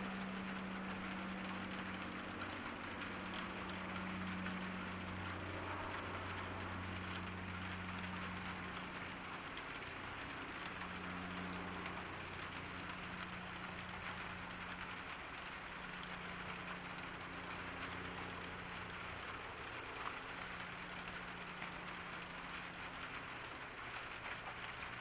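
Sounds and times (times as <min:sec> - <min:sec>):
low steady hum: 0:00.0 - 0:25.0
rain falling: 0:00.0 - 0:25.0.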